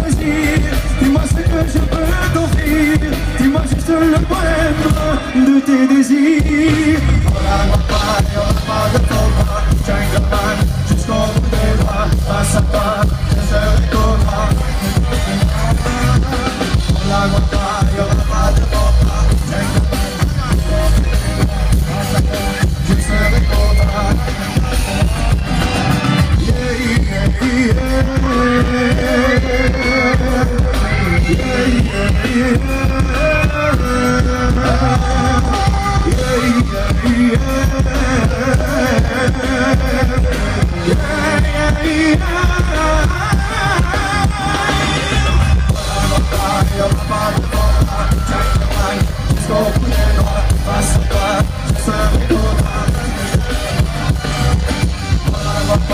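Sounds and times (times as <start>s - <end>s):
drums: 0.0s - 55.9s
guitars: 0.0s - 55.9s
person singing: 0.0s - 55.9s.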